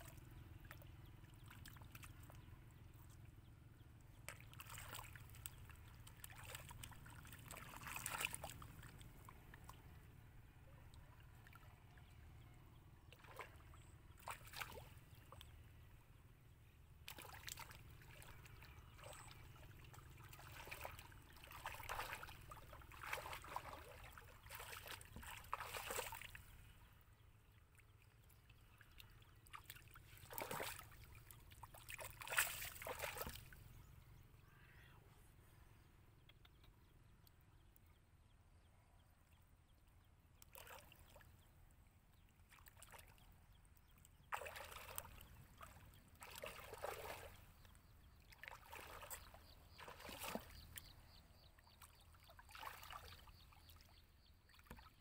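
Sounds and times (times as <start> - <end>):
splashing in shallow muddy water: 0.0 - 34.0, 40.4 - 55.0.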